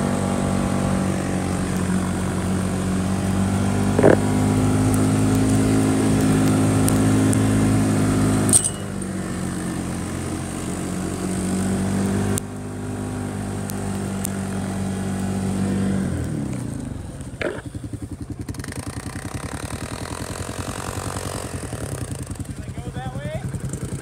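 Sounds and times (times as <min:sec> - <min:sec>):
utility vehicle engine running: 0:00.0 - 0:24.0.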